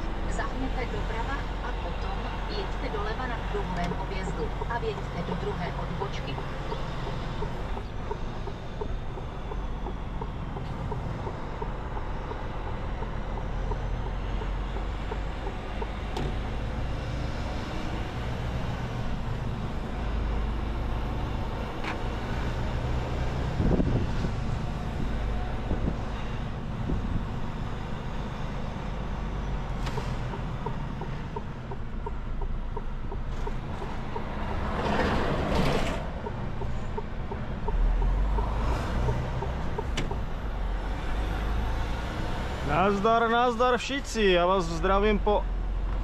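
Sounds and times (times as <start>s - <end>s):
diesel truck engine running: 0.0s - 46.0s
road noise: 0.0s - 46.0s.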